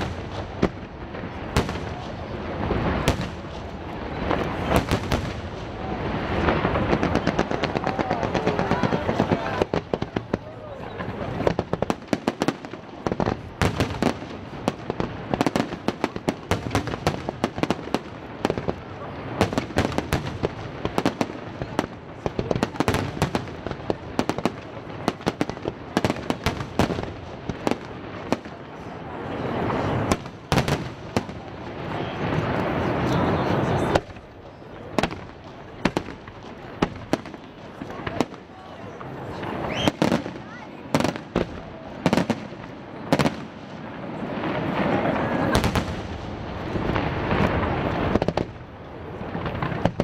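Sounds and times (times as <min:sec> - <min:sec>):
fireworks bangs and pops: 0:00.0 - 0:50.0
fireworks crackle: 0:00.0 - 0:50.0.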